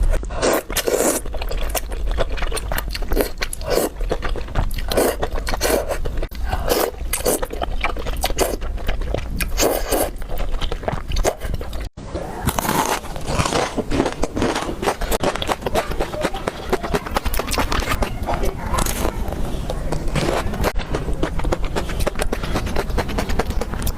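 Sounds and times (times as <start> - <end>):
close biting and chewing: 0.0 - 23.9.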